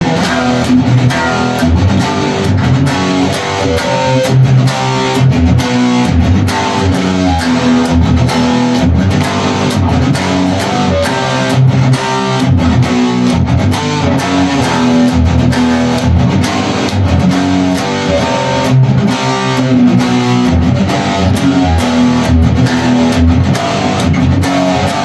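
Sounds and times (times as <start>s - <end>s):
electric guitar playing rock riff: 0.0s - 25.0s.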